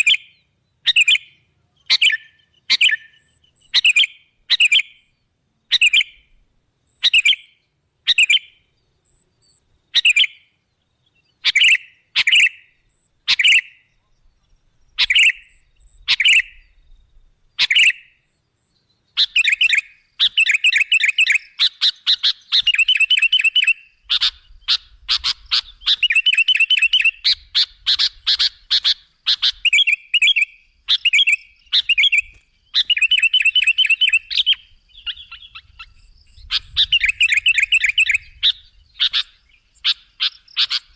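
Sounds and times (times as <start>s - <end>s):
bulbul calling: 0.0s - 5.1s, 5.7s - 8.8s, 9.9s - 17.0s, 17.6s - 18.3s, 18.9s - 40.9s.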